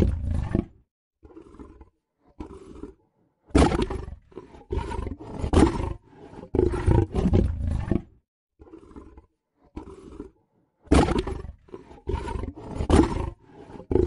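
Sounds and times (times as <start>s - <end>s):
dinosaur roaring: 0.0s - 14.0s.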